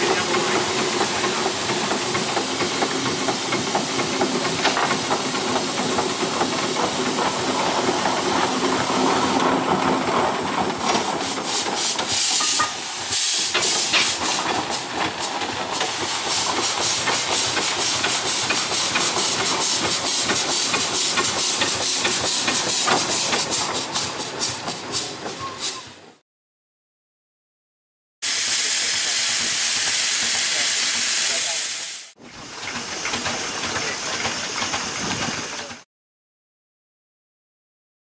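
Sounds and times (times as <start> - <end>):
steam hissing: 0.0 - 9.5, 10.9 - 25.9, 28.2 - 35.8
steam engine chuffing: 0.0 - 26.2, 28.2 - 35.8.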